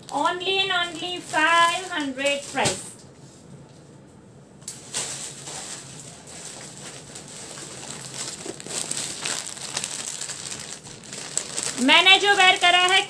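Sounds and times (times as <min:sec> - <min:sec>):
plastic packet crinkling: 0:00.0 - 0:02.9, 0:04.7 - 0:13.0.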